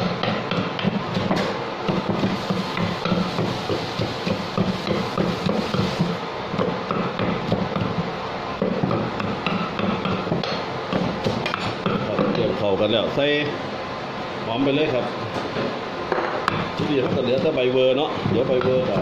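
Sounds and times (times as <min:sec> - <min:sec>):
pestle pounding in clay mortar: 0:00.0 - 0:12.5, 0:16.1 - 0:19.0.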